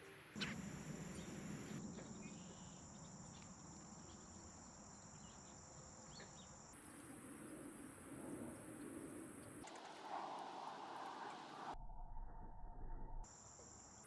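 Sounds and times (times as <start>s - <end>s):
high-pitched insect chorus: 0.4s - 11.8s, 13.2s - 14.0s.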